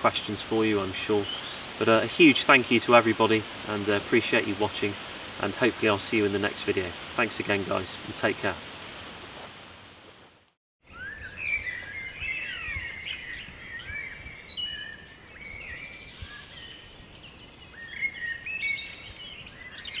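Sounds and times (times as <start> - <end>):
birds singing: 0.0 - 8.6, 10.9 - 20.0.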